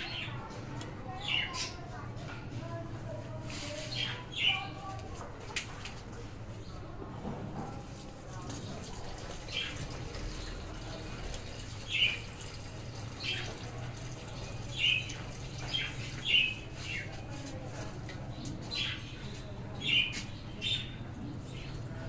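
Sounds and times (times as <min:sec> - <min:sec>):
small birds chirping: 0:00.0 - 0:06.9, 0:08.4 - 0:22.0.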